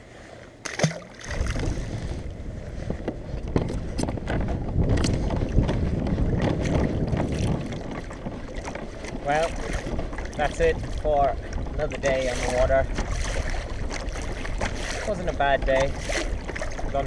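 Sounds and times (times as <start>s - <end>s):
water against kayak hull: 0.0s - 17.0s
wind buffeting microphone: 1.2s - 17.0s.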